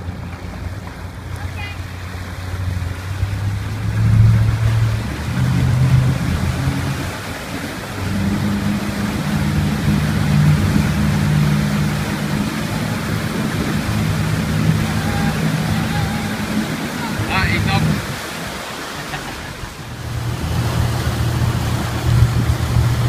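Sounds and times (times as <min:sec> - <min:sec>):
churning wake rushing: 0:00.0 - 0:23.0
motorboat engine hum: 0:00.0 - 0:23.0.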